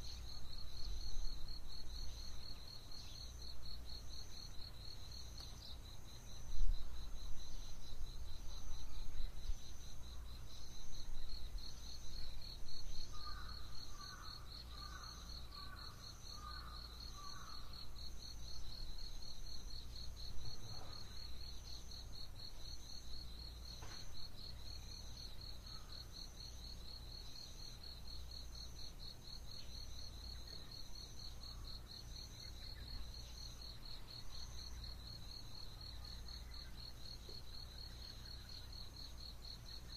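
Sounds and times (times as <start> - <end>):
insect chirping: 0.0 - 39.9
insects trilling: 0.0 - 39.9.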